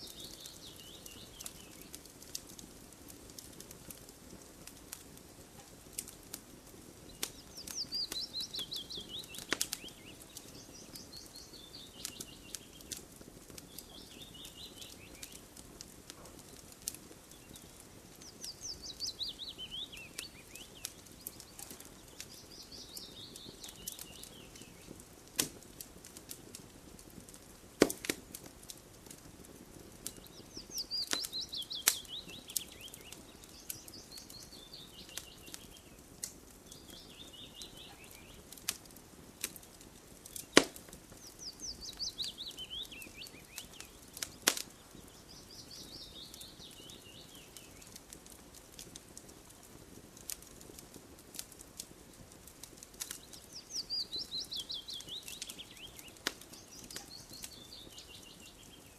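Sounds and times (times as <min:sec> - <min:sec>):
campfire crackling: 0:00.0 - 0:58.9.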